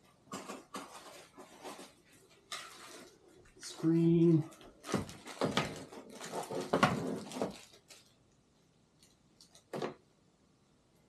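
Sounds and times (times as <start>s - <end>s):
packaging rustling and crinkling: 0.0s - 8.4s, 9.0s - 10.0s.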